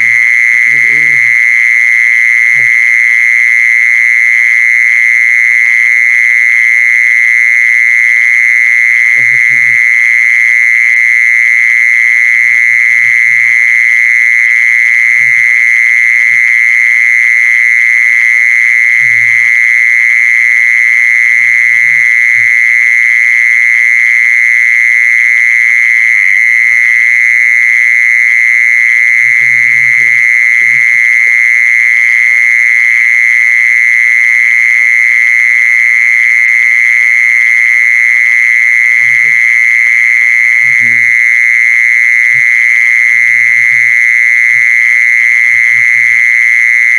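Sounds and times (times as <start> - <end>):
mole cricket trilling: 0.0 - 46.9.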